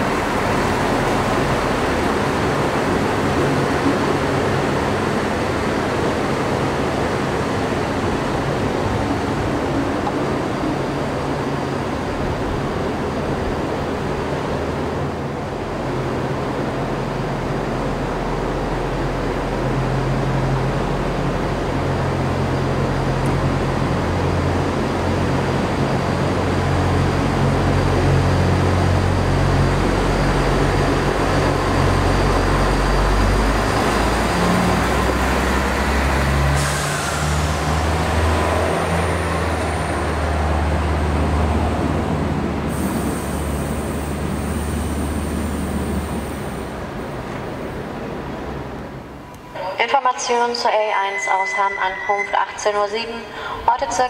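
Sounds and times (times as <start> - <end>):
train moving off: 0.0 - 54.0.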